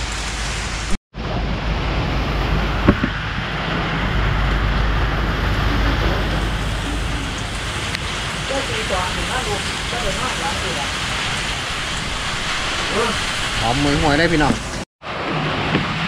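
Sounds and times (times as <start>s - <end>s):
deep rumble: 0.0s - 16.0s
heavy rain falling: 0.0s - 16.0s.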